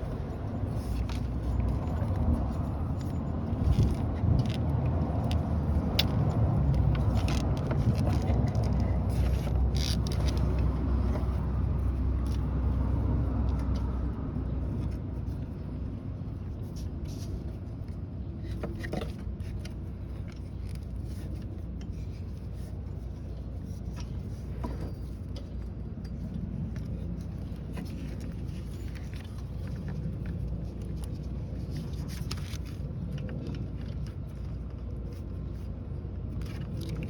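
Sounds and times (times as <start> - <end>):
handling clicks and scrapes: 0.0 - 37.0.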